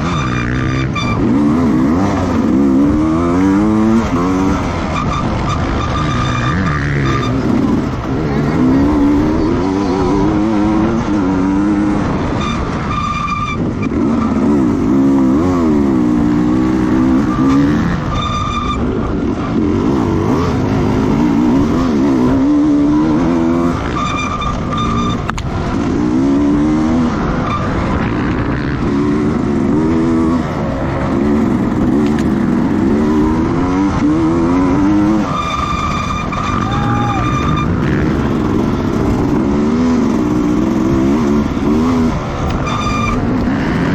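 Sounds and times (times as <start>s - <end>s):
racing motorcycle engines revving: 0.0s - 43.9s.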